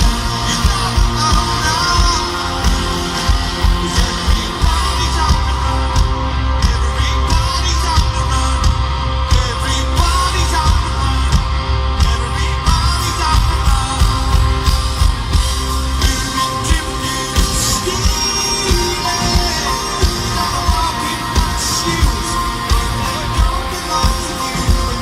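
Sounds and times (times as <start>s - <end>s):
live rock band with singing: 0.0s - 25.0s
steady bass: 0.0s - 25.0s.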